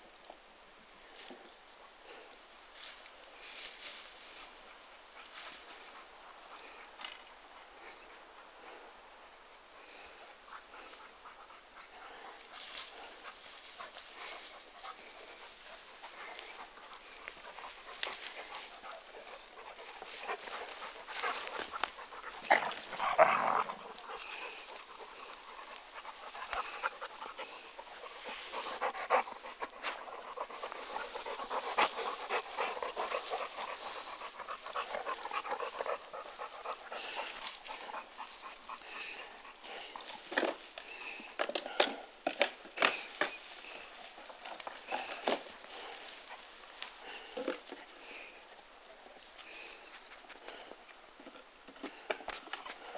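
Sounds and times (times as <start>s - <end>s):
dog panting: 4.4s - 41.4s, 42.8s - 51.4s.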